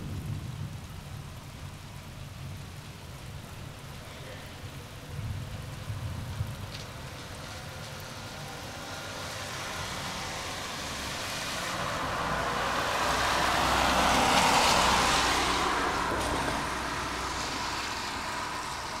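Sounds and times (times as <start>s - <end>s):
car passing on a wet road: 0.0s - 19.0s.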